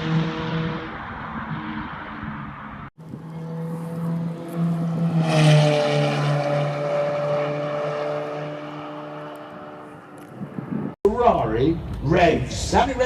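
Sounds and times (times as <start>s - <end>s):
high-revving car engine: 0.0s - 10.9s.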